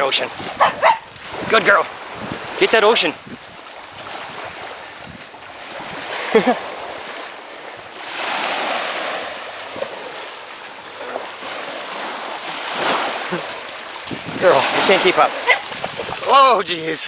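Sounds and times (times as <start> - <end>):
ocean surf washing up: 0.0 - 17.0.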